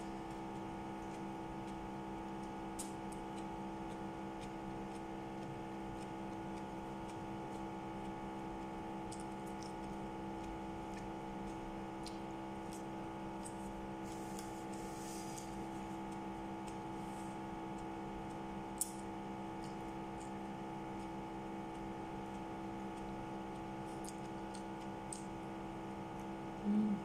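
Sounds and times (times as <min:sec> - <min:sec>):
chewing crunchy vegetables: 0:00.0 - 0:25.4
electrical hum: 0:00.0 - 0:27.0.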